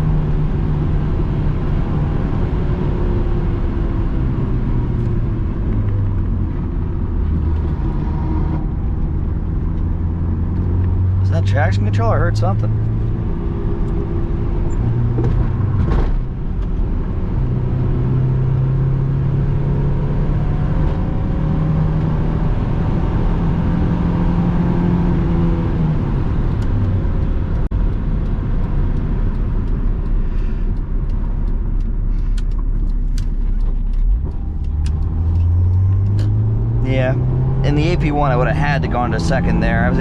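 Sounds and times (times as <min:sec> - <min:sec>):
car engine revving: 0:00.0 - 0:40.0
road and tyre rumble: 0:00.0 - 0:40.0.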